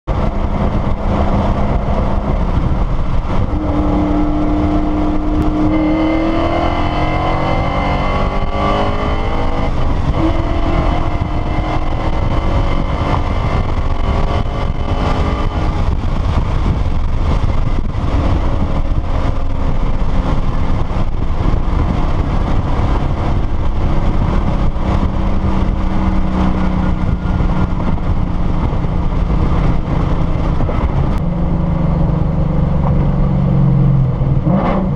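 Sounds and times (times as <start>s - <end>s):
car exhaust drone: 0.0s - 34.9s.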